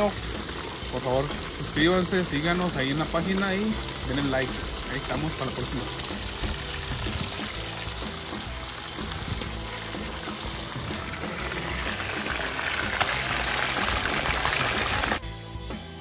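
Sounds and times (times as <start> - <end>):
oil sizzling frying chicken: 0.0 - 15.9
background music: 0.0 - 16.0.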